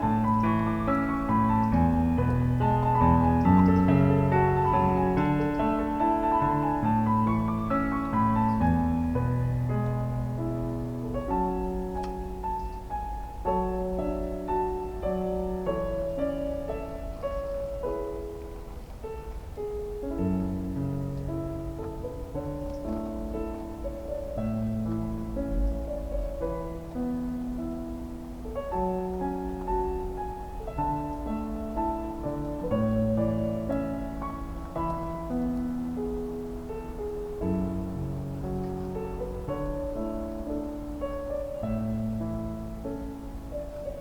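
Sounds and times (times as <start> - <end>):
slow piano music: 0.0 - 44.0.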